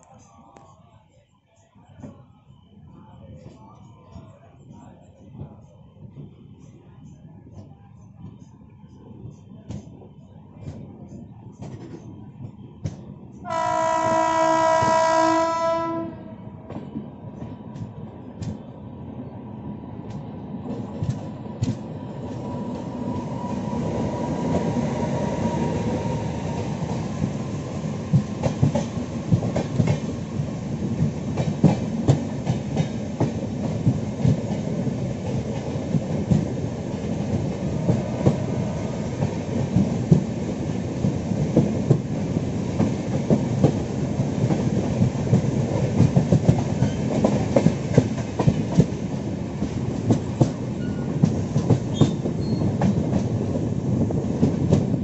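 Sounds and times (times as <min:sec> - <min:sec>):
train passing with rumble: 0:01.8 - 0:55.0.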